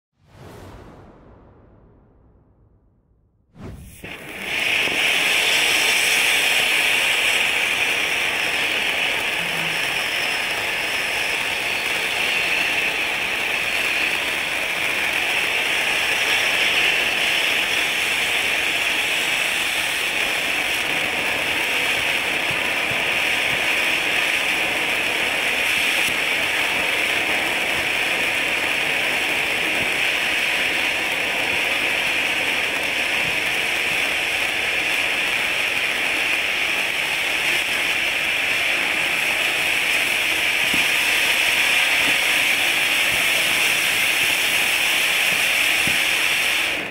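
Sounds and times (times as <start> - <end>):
firework fountain hissing: 3.6 - 46.9.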